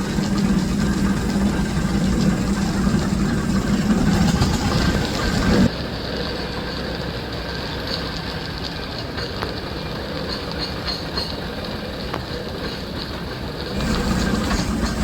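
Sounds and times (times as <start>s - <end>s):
steam traction engine running: 0.0s - 15.0s.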